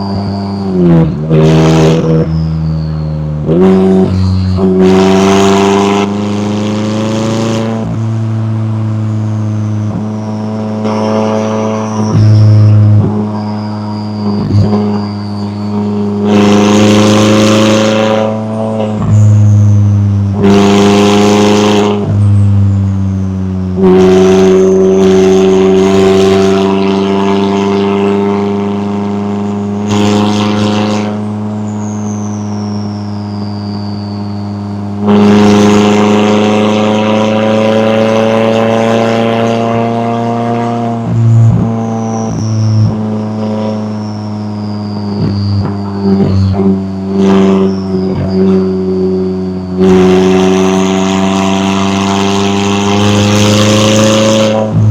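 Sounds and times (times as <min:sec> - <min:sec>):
car engine roaring: 0:00.0 - 0:54.9.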